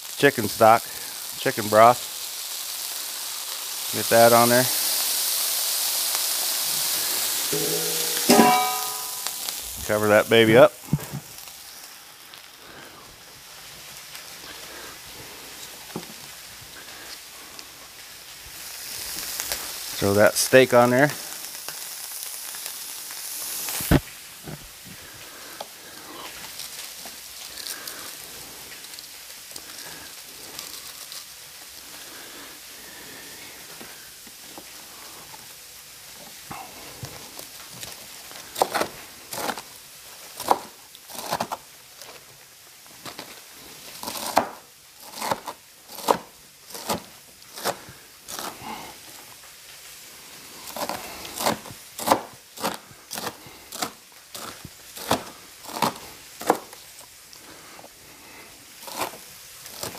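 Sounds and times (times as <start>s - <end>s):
steak sizzling on a griddle: 0.0s - 59.9s.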